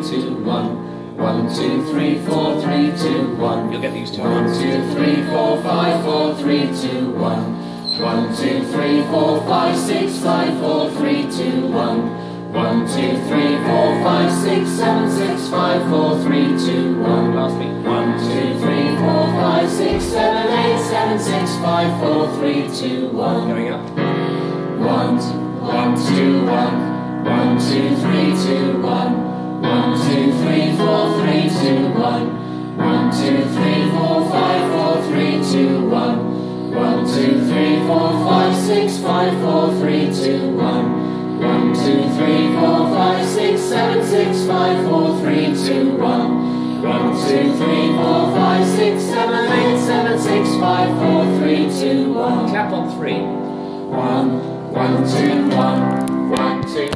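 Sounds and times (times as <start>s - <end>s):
digital piano: 0.0s - 56.9s
mixed choir singing: 0.0s - 56.9s.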